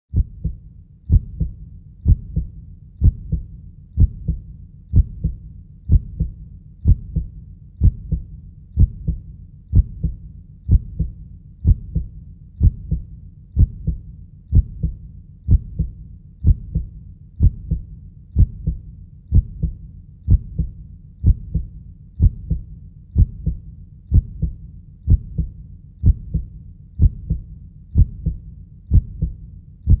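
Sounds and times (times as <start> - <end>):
heartbeat thumps: 0.1 - 30.0.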